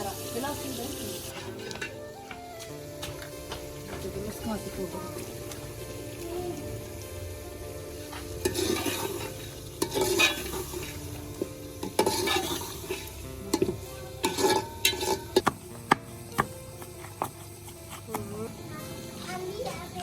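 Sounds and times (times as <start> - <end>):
frying sizzle: 0.0 - 20.0
utensil scraping cooking pot: 0.0 - 20.0.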